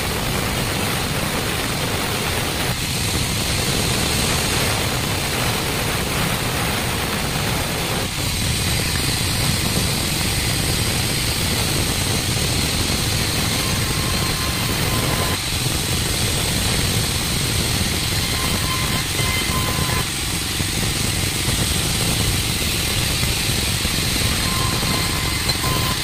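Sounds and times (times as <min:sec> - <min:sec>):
band saw cutting wood: 0:02.7 - 0:26.0.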